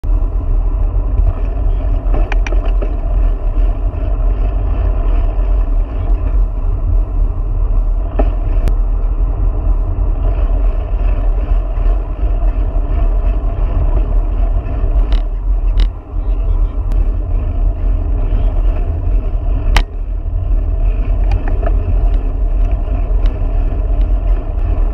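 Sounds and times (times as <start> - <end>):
tyre noise on pavement: 0.0 - 24.9
wind buffeting microphone: 0.0 - 24.9.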